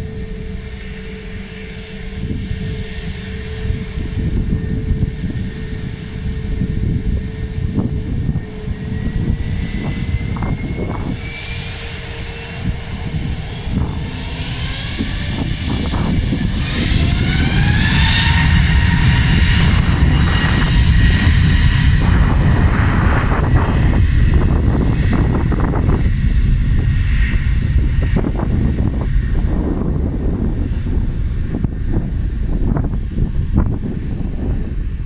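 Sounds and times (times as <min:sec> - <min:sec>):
airliner engines whining: 0:00.0 - 0:35.0.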